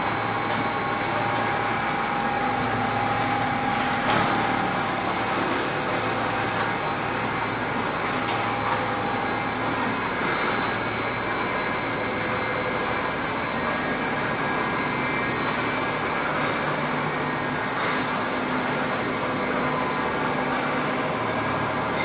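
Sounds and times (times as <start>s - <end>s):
dense machine noise: 0.0s - 22.0s.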